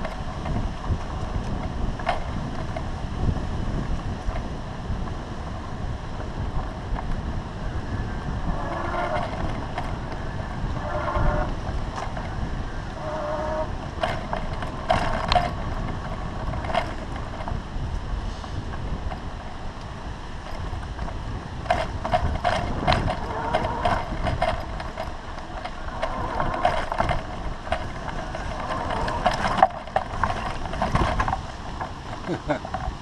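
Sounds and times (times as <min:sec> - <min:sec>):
sharp clicks and rattles: 0:00.0 - 0:05.6, 0:06.2 - 0:33.0
tyres rumbling on dirt path: 0:00.0 - 0:33.0
wind buffeting microphone: 0:00.0 - 0:33.0.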